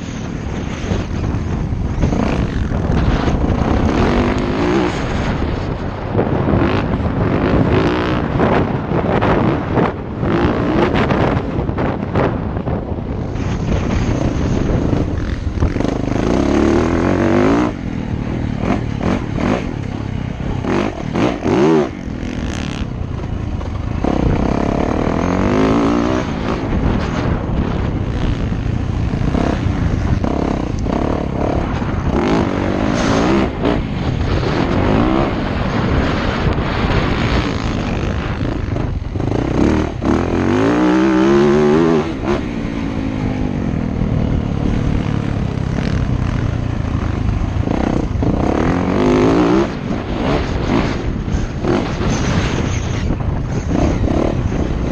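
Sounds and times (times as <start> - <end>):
dirt bike engine revving: 0.0 - 12.3, 13.2 - 54.9.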